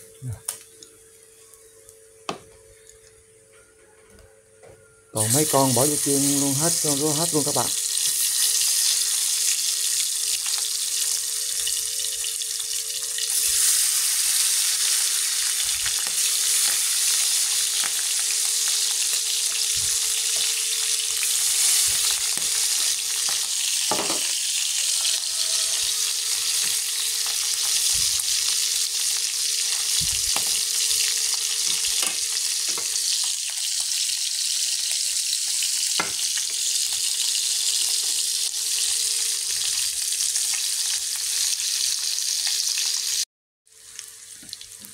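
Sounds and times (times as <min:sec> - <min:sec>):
fish frying in hot oil: 0:05.3 - 0:44.9.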